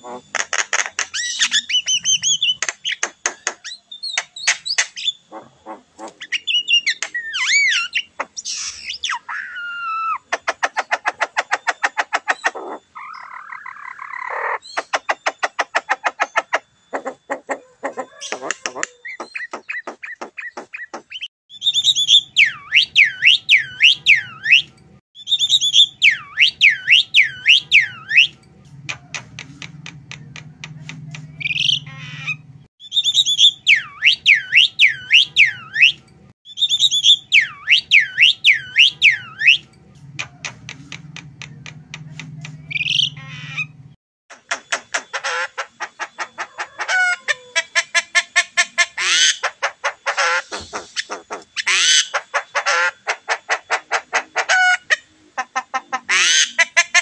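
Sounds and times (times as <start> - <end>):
bird buzzy chatter: 10.0 - 57.0.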